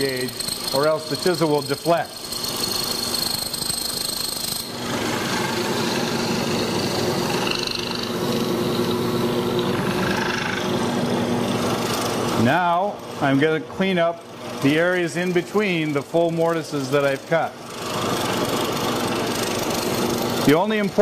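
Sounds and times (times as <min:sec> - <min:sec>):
drill press boring into wood: 0:00.0 - 0:13.4, 0:14.2 - 0:21.0.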